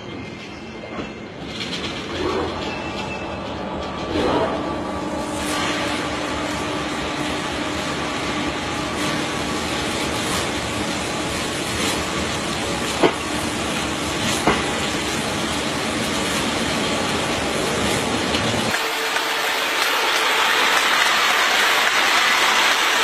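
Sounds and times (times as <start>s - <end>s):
train running with rushing hiss: 0.0s - 23.0s.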